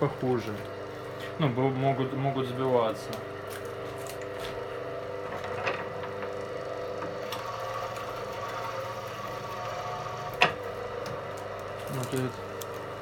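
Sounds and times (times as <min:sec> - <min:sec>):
cable-stripping machine running: 0:02.4 - 0:13.0.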